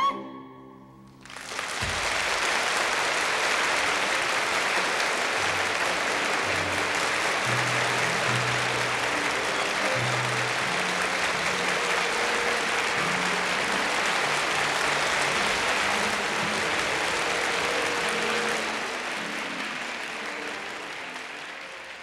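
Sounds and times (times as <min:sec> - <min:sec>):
audience applauding: 0:01.1 - 0:22.0.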